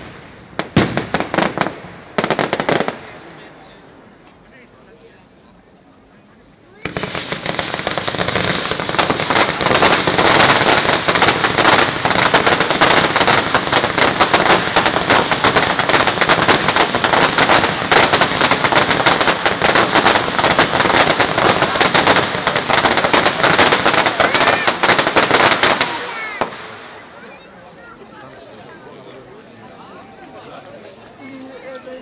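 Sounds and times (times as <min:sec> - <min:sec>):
fireworks crackling: 0:00.0 - 0:04.4, 0:06.7 - 0:28.2.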